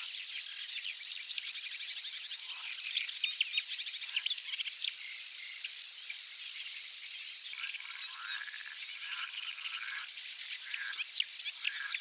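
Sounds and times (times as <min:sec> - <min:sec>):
bird reeling trill: 0:00.0 - 0:07.3, 0:08.2 - 0:12.0.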